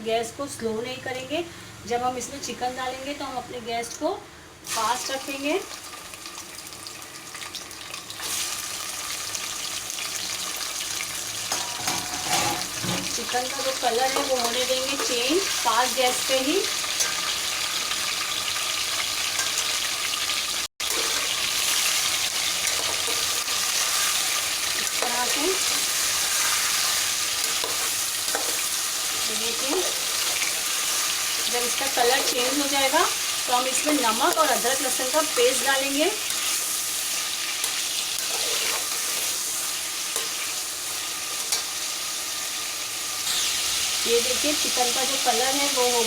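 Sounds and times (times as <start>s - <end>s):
meat sizzling in hot oil: 4.6s - 46.0s.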